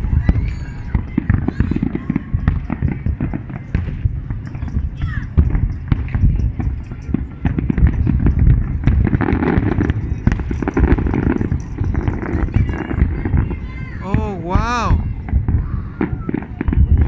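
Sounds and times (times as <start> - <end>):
continuous low rumble: 0.0 - 17.0
fireworks bangs and crackles: 0.0 - 17.0.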